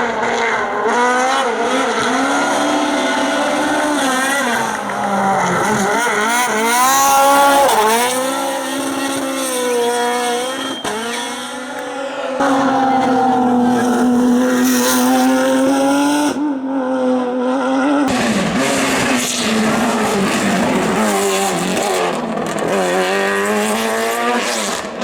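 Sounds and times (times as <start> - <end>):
race car engine revving: 0.0 - 25.0.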